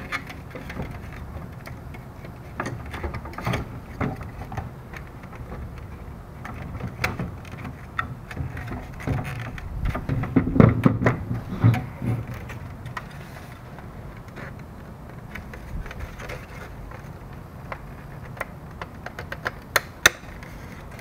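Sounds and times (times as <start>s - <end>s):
low steady hum: 0.0s - 21.0s
plastic parts clicking: 0.0s - 21.0s.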